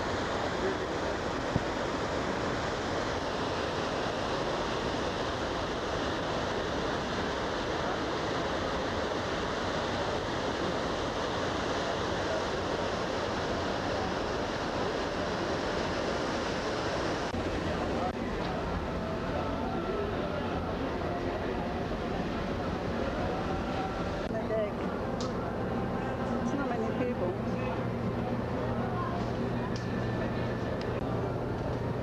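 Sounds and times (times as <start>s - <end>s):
ferry wake churning: 0.0s - 32.0s.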